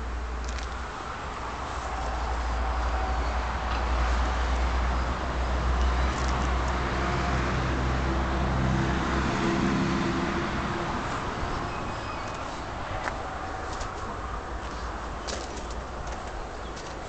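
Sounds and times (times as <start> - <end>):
excavator diesel engine drone: 0.0 - 15.0.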